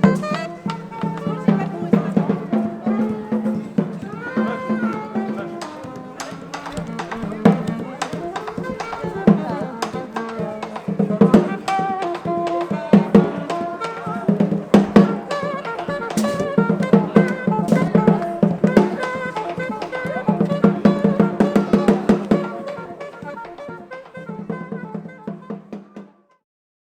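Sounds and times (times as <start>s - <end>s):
instrumental music with drums: 0.0s - 26.4s.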